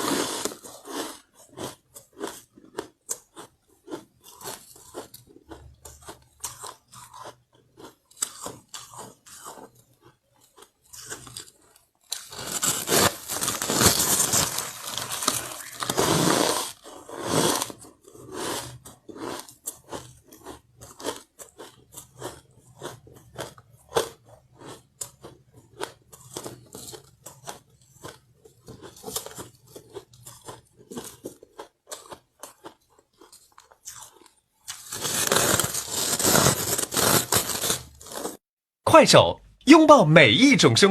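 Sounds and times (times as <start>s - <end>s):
ice being chewed: 0.0s - 38.4s.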